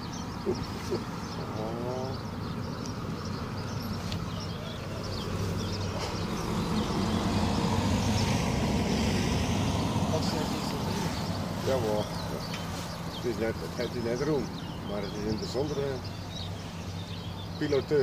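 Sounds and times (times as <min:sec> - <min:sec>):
boat engines droning: 0:00.0 - 0:18.0.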